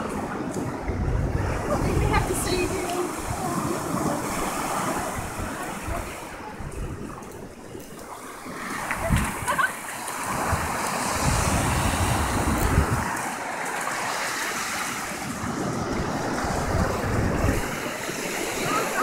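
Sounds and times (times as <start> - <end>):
ocean surf washing on shore: 0.0 - 19.0
wind rumbling on microphone: 0.0 - 19.0.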